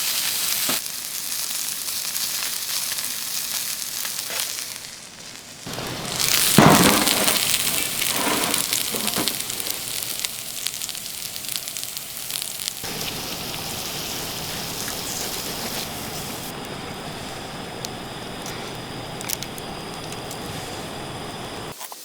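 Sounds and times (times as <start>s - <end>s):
steak sizzling: 0.0s - 21.8s
wood fire crackling: 0.6s - 21.8s.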